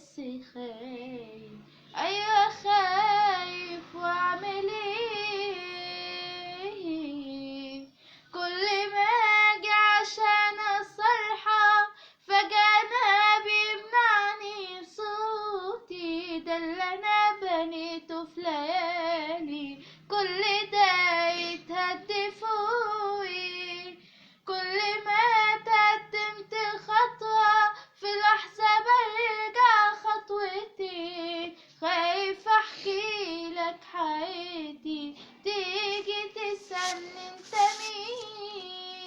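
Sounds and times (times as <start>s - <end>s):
young voice singing: 0.0s - 39.0s.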